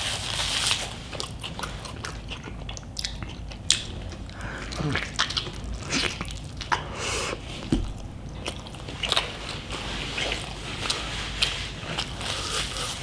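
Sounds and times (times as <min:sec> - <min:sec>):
person chewing food: 0:01.0 - 0:13.0.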